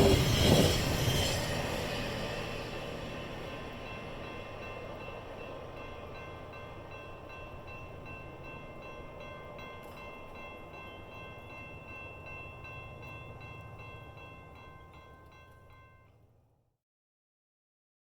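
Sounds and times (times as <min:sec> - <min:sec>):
train rumbling: 0:00.0 - 0:16.0
crossing bell ringing: 0:00.0 - 0:16.3.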